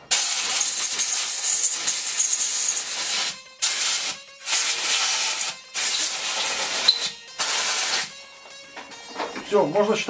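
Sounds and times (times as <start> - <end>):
compressed air blow gun hissing: 0.0 - 8.1.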